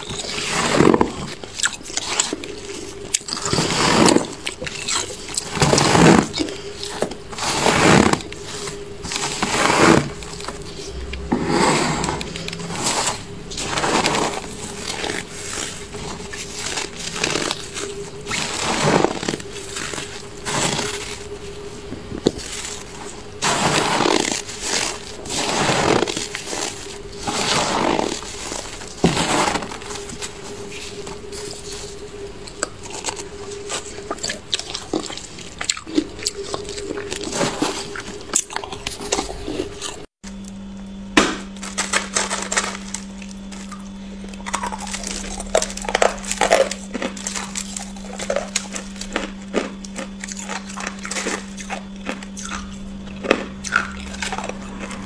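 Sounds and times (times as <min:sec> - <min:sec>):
hand scraping freezer frost: 0:00.0 - 0:40.1, 0:41.6 - 0:55.0
steady hum: 0:00.0 - 0:55.0.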